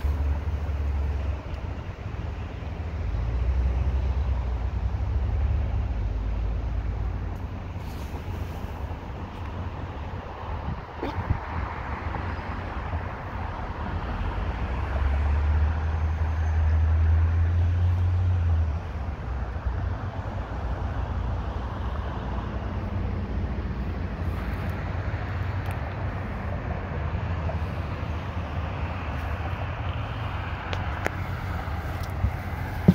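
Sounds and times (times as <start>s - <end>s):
road traffic hum and hiss: 0.0s - 32.9s.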